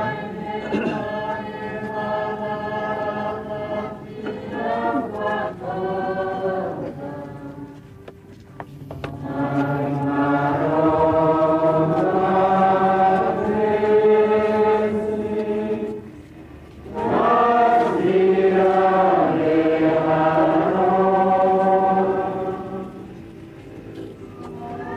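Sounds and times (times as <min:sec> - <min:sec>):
group singing a hymn: 0:00.0 - 0:08.0, 0:08.9 - 0:24.9.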